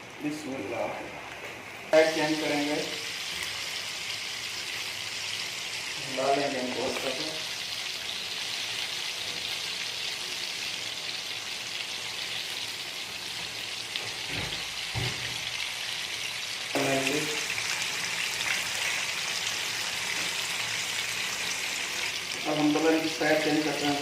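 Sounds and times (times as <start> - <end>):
chicken deep-frying in oil: 1.9 - 24.0.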